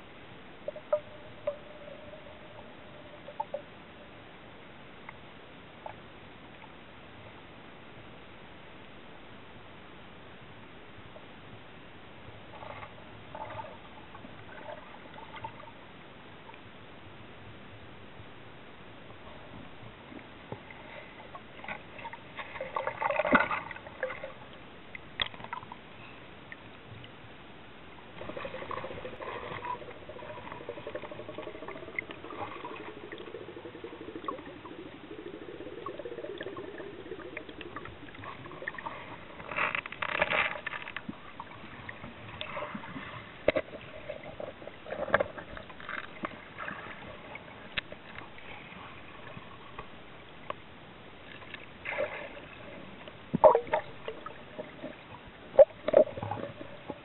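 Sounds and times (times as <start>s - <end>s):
faint wavering hum: 0.0s - 57.0s
underwater crackling and bubbling: 0.1s - 7.2s, 12.2s - 17.2s, 19.0s - 57.0s.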